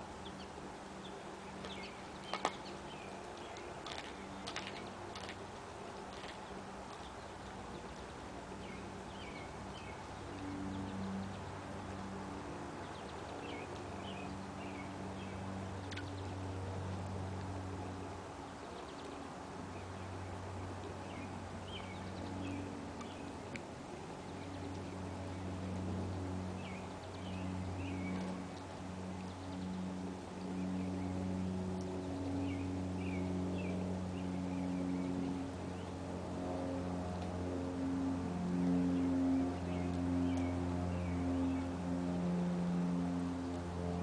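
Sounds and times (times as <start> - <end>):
birds chirping: 0.0 - 16.8, 17.7 - 36.8, 38.5 - 41.9
low steady hum: 0.0 - 44.0.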